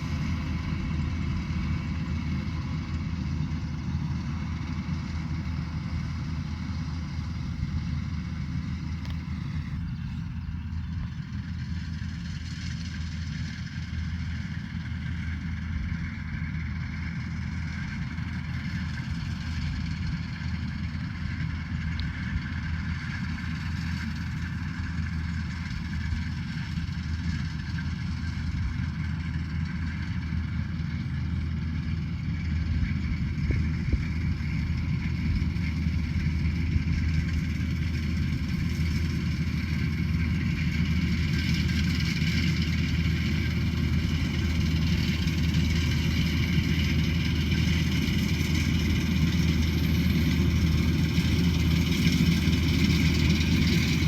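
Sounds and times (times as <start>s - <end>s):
combine harvester engine hum: 0.0s - 54.0s.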